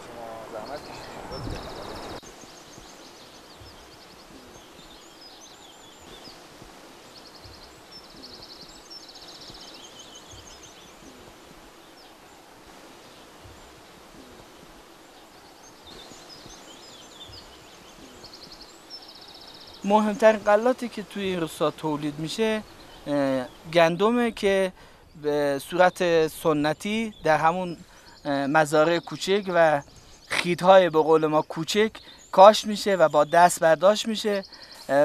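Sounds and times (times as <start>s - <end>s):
bird chirps: 0.0s - 35.0s
birds trilling: 0.0s - 35.0s
steady background hiss: 0.0s - 35.0s.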